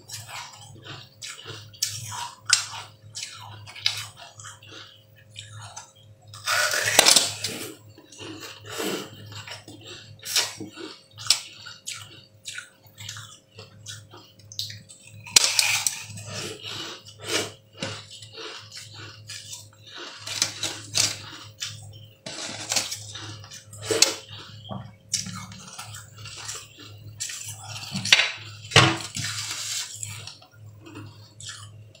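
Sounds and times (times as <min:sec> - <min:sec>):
wet chewing and squelching: 0:00.0 - 0:32.0.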